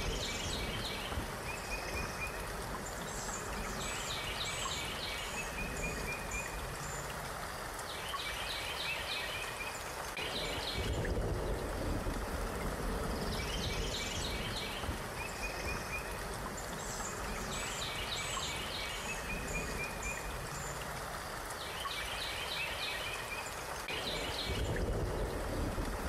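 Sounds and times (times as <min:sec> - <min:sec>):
rain-like hiss: 0:00.0 - 0:26.0
songbird chirping: 0:00.0 - 0:26.0.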